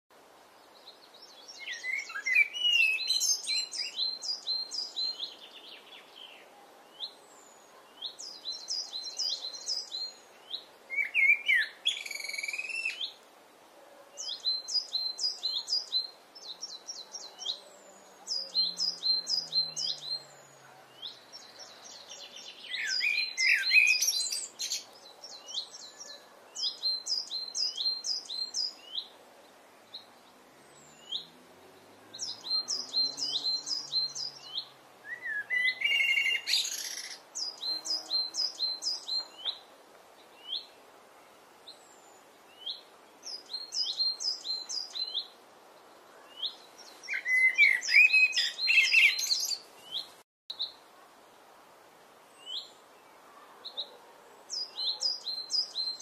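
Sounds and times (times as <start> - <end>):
blackbird singing fluty phrases: 0.7 - 13.2, 14.2 - 29.2, 29.8 - 39.6, 40.3 - 40.8, 41.6 - 45.4, 46.1 - 50.8, 52.4 - 56.0.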